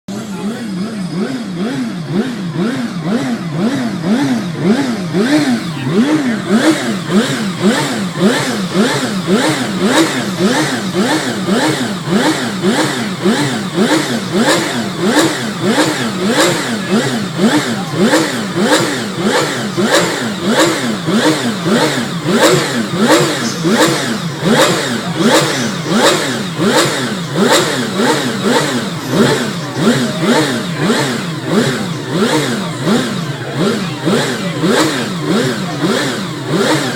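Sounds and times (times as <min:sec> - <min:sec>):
racing engine revving: 0:00.0 - 0:36.9.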